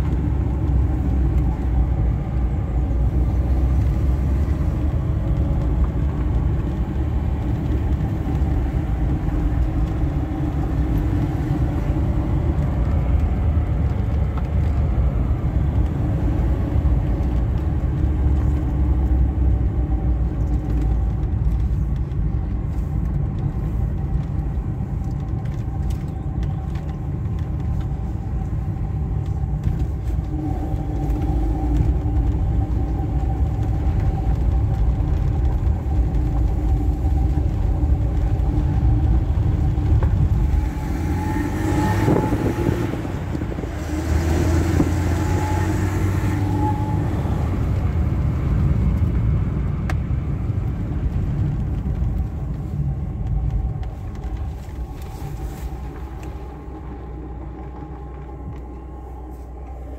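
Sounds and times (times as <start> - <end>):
car engine droning: 0.0 - 59.9
road rumble: 0.0 - 59.9.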